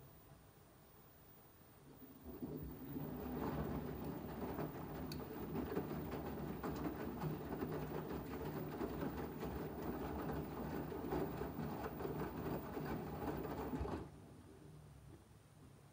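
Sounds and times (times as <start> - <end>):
washing machine tumbling laundry: 1.8 - 14.9.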